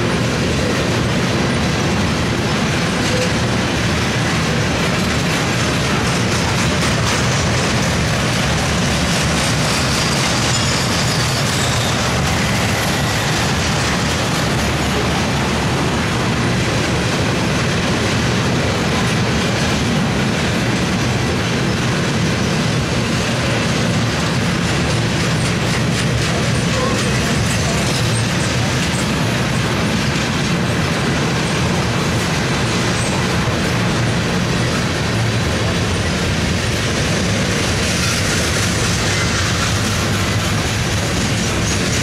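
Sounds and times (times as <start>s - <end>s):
train wheels running on rails: 0.0s - 42.0s.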